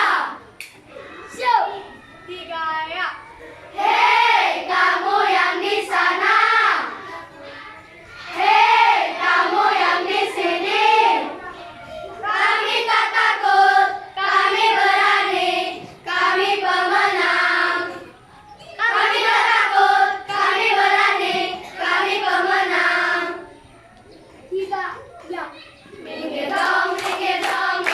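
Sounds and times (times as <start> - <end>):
children's choir singing: 0.0 - 0.6, 3.3 - 24.1, 25.9 - 27.9.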